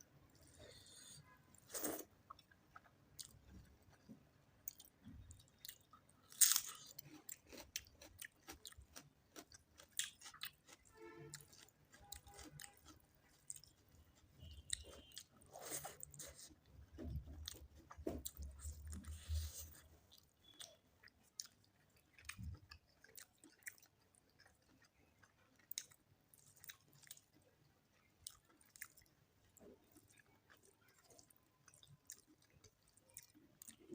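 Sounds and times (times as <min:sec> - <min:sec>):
wet chewing and crunching: 0:01.6 - 0:33.9.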